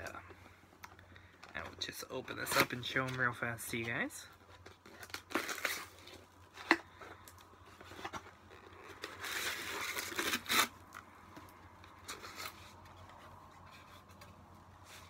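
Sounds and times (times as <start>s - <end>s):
quiet handling of packaging: 0.0s - 15.0s
packaging tearing and crinkling: 1.6s - 13.8s.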